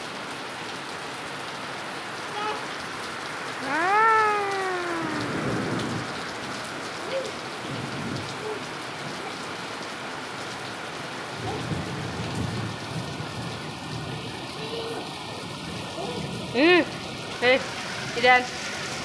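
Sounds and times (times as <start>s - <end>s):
rain falling on concrete: 0.0s - 19.0s.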